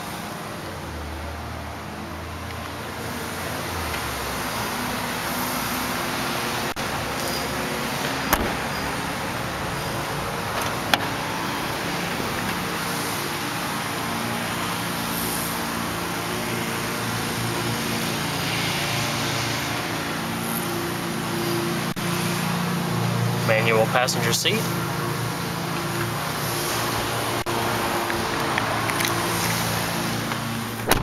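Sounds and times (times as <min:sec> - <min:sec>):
vehicle hum: 0:00.0 - 0:31.0.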